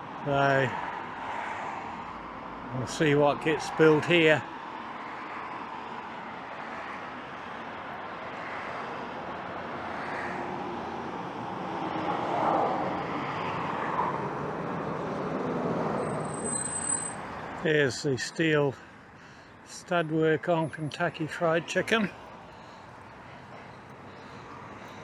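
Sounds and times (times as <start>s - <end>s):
highway traffic rush: 0.0s - 25.0s.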